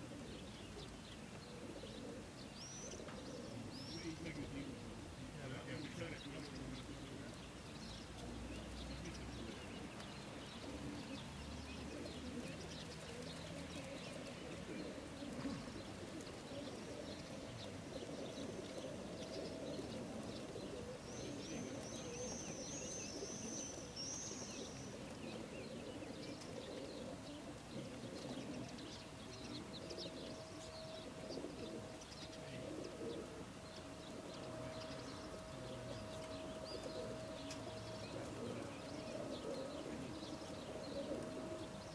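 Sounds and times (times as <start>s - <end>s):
pigeons cooing: 0.0s - 41.9s.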